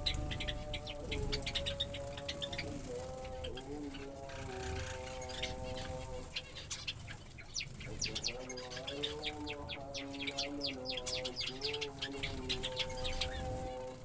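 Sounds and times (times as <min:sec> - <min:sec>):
small birds chirping: 0:00.0 - 0:14.0
steady humming tone: 0:00.0 - 0:14.0.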